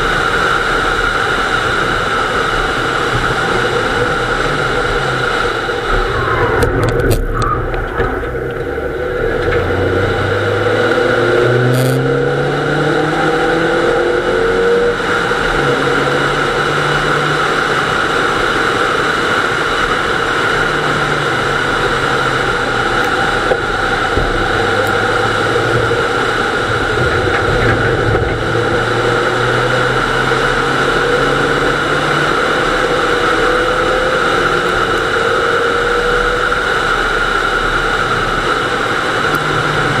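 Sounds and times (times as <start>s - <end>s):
car engine accelerating through gears: 0.0s - 40.0s.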